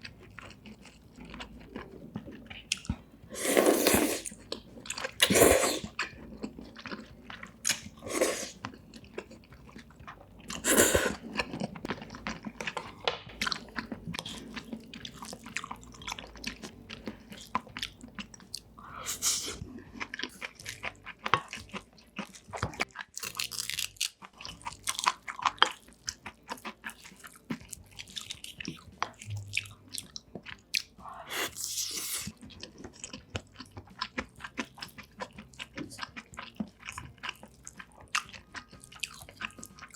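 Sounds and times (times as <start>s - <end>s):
chewing and biting food: 0.0s - 39.9s.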